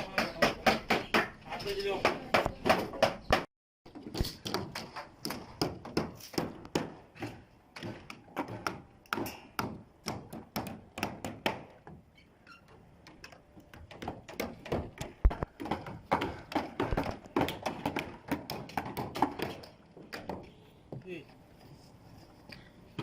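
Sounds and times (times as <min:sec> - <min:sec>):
construction knocks and taps: 0:00.0 - 0:21.1.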